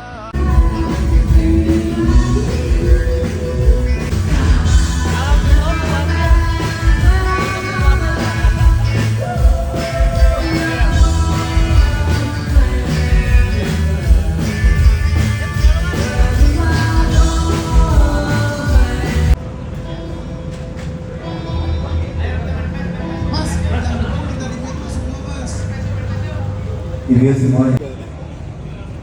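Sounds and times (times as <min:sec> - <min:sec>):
live rock band playing: 0:00.4 - 0:24.4.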